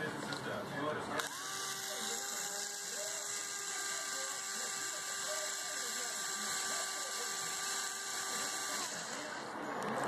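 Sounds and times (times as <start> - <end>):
cordless drill motor whine: 1.2 - 10.0
ratcheting gear sound: 1.2 - 10.0.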